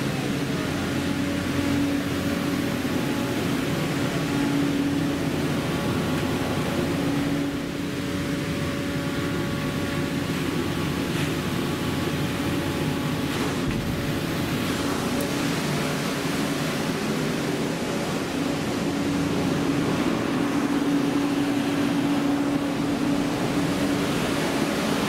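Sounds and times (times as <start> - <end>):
engine room machinery humming: 0.0 - 25.0.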